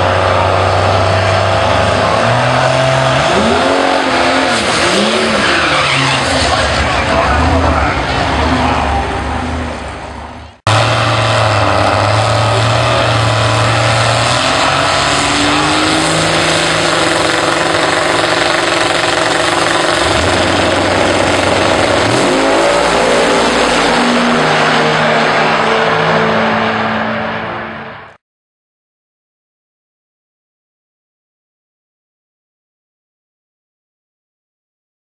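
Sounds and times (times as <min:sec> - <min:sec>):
drag car engine revving: 0:00.0 - 0:28.2.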